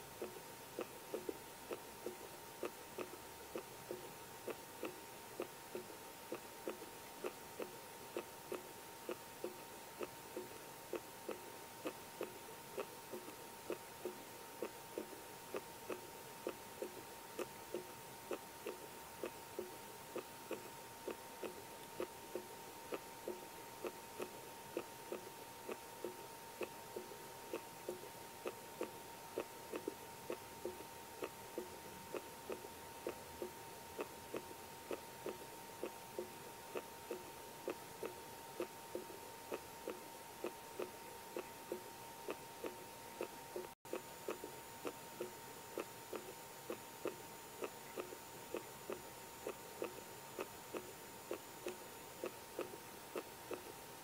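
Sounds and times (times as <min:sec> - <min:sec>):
faint steady whine: 0:00.0 - 0:54.0.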